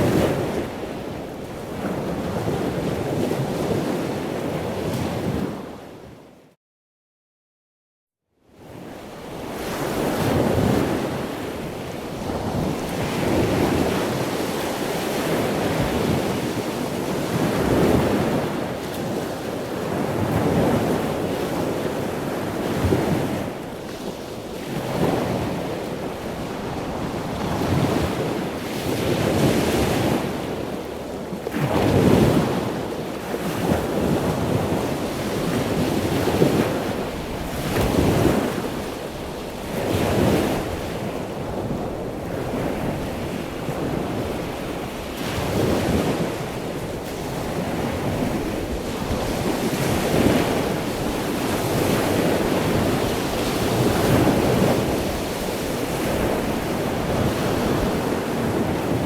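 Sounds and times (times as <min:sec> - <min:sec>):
ocean waves breaking on shore: 0:00.0 - 0:06.4, 0:08.6 - 0:59.0
wind on the microphone: 0:08.6 - 0:59.0.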